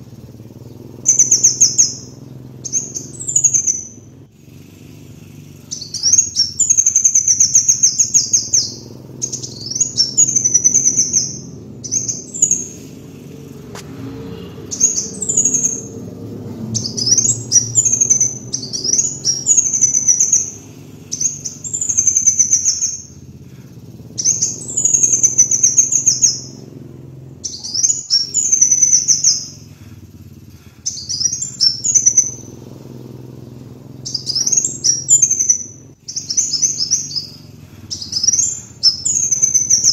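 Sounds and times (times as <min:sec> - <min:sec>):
low background hum: 0:00.0 - 0:39.9
sunbird trilling: 0:00.0 - 0:39.9.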